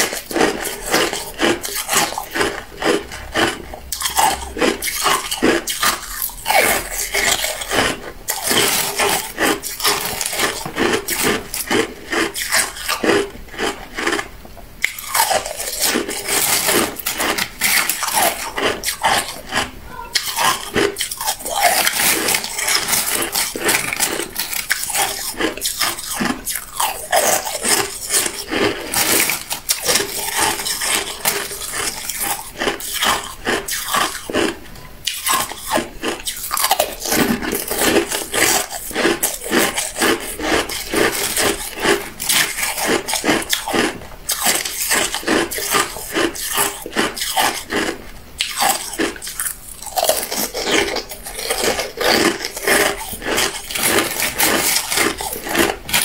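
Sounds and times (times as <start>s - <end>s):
ice being chewed: 0.0s - 56.0s.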